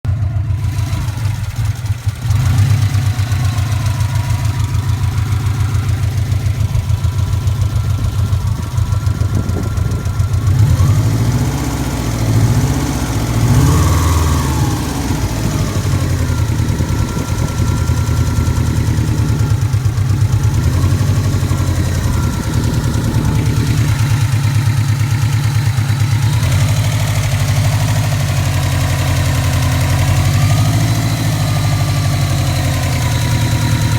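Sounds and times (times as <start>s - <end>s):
car engine idling with ticking: 0.0s - 33.9s.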